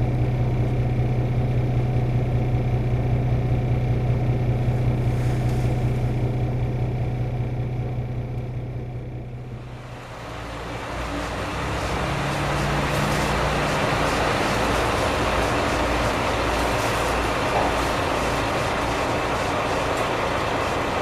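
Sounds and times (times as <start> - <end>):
diesel train running: 0.0 - 21.0.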